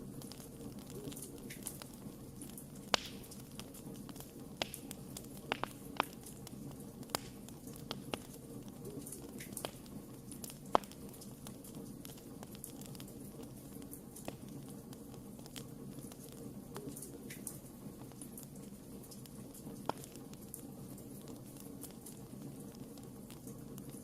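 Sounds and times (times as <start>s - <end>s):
campfire crackling: 0.0s - 24.0s
fire snapping and popping: 0.0s - 24.0s.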